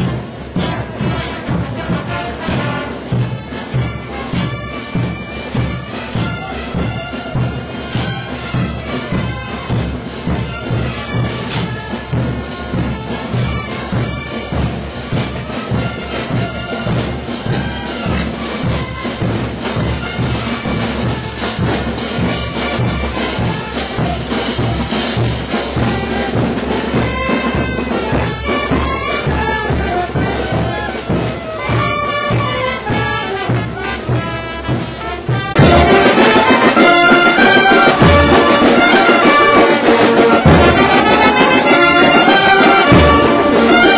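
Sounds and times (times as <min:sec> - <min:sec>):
marching brass band: 0:00.0 - 0:43.9.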